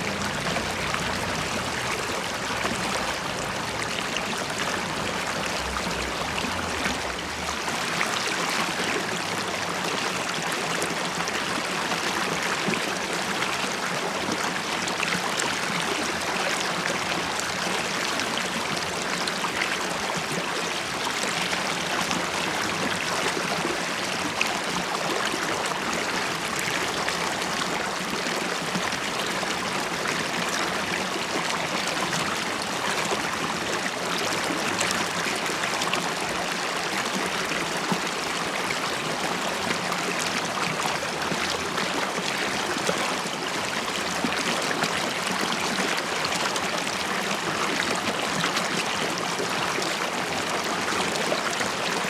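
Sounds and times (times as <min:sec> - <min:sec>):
river water babbling: 0:00.0 - 0:52.0.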